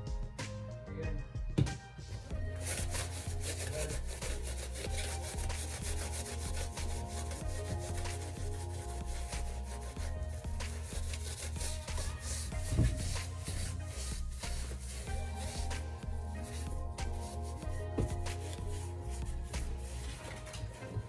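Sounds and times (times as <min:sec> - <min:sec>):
background music: 0:00.0 - 0:21.0
cotton pad scrubbing leather: 0:02.4 - 0:20.4.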